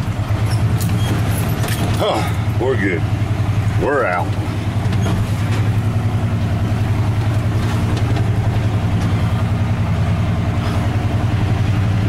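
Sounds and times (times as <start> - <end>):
pickup engine running: 0.0 - 12.0.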